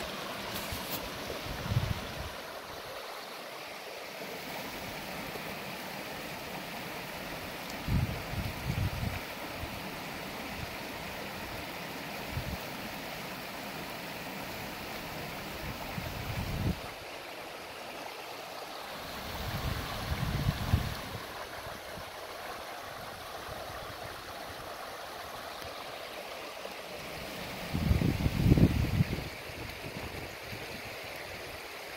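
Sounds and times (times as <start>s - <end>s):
creek water running over rocks: 0.0s - 31.9s.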